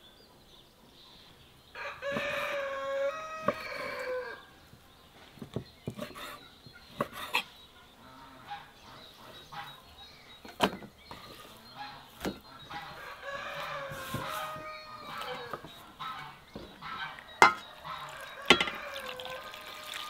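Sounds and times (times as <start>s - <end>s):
chickens clucking: 1.8s - 20.0s.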